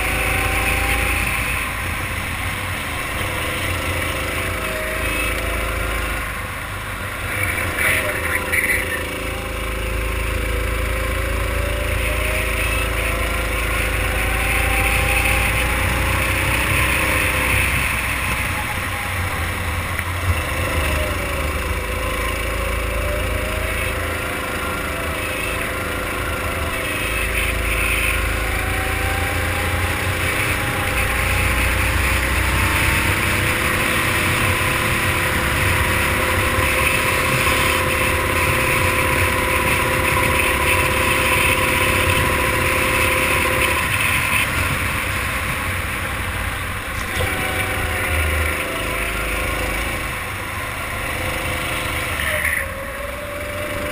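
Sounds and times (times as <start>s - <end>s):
kart engine at full power: 0.0s - 53.9s.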